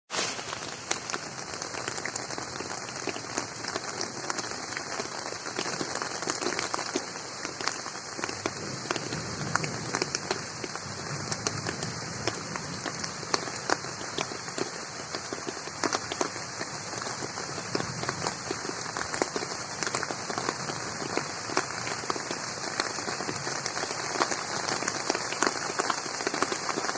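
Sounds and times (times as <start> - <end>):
rain falling on pond: 0.1 - 26.9.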